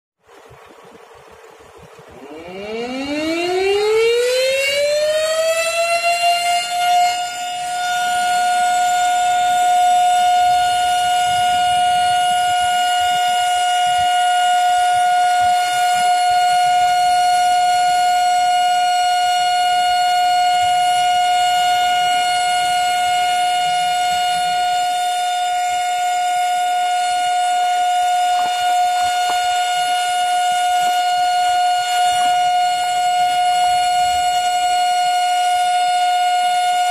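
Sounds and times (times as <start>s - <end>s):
siren winding up: 2.1s - 36.9s.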